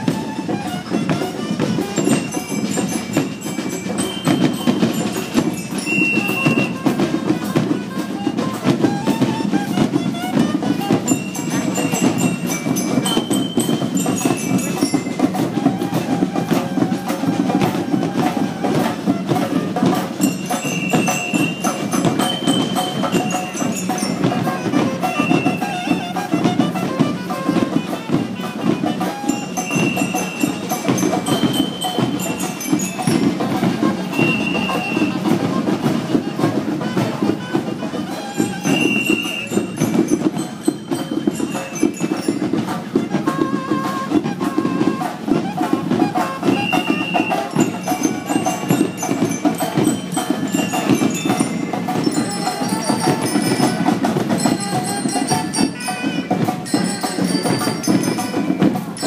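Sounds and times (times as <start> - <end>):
marching band playing: 0.0 - 59.0
steady drum beat: 0.0 - 59.0
bell lyres ringing high notes: 0.1 - 59.0.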